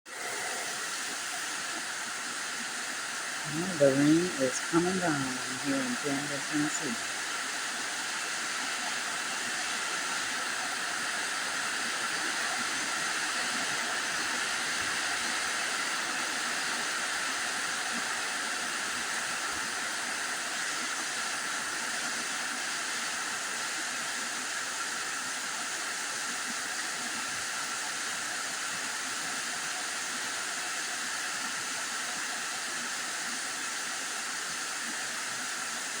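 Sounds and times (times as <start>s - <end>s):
heavy rain pouring: 0.1s - 33.4s.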